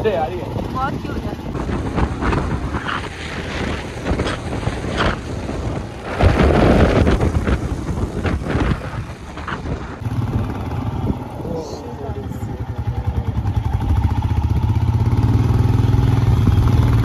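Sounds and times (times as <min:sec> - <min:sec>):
motorcycle engine running: 0:00.0 - 0:17.0
road noise: 0:00.0 - 0:17.0
wind buffeting microphone: 0:00.0 - 0:17.0.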